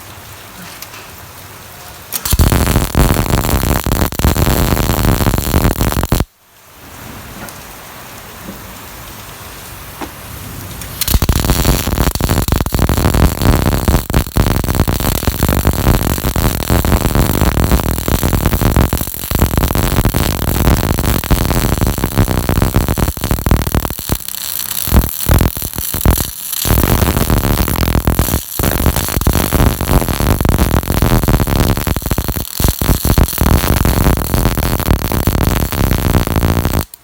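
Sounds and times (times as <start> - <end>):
steady hiss: 0.0 - 37.0
welder arc crackling and sputtering: 2.1 - 6.3, 10.8 - 37.0.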